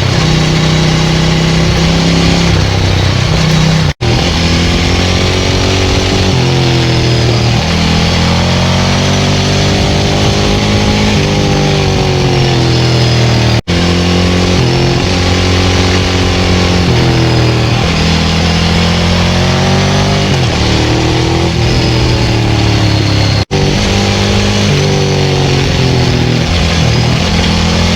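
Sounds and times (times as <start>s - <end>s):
motorcycle engine revving under way: 0.0s - 27.9s.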